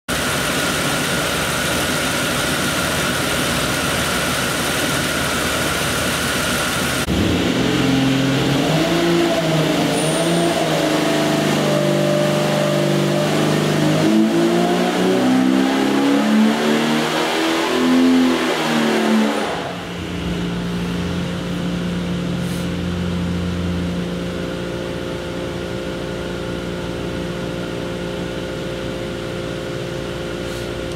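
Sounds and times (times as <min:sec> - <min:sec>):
engine running on dynamometer: 0:00.1 - 0:30.9.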